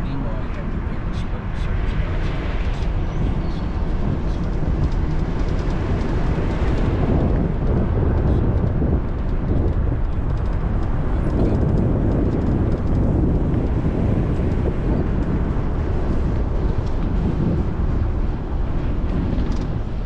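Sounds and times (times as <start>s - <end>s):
vehicle engine and tyre rumble: 0.0s - 20.0s.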